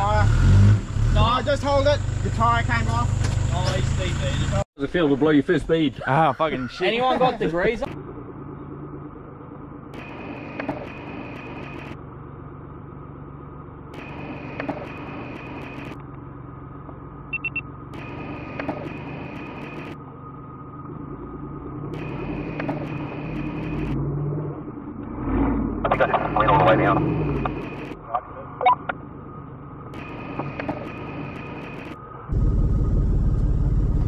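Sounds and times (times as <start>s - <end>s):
engine idling hum: 0.8s - 4.6s, 7.5s - 34.0s.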